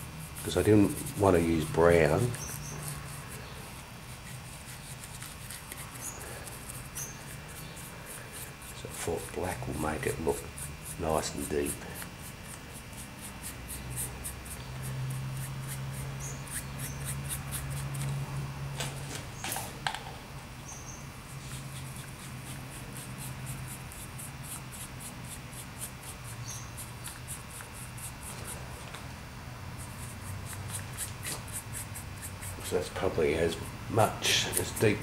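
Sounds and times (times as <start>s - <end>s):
paintbrush scratchy strokes: 0.2s - 18.1s, 21.3s - 29.0s, 29.8s - 35.0s.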